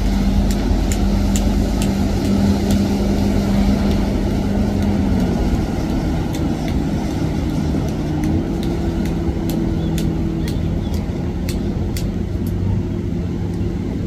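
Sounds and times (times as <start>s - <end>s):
sharp ticks: 0.0s - 12.7s
motorboat engines droning: 0.0s - 14.0s.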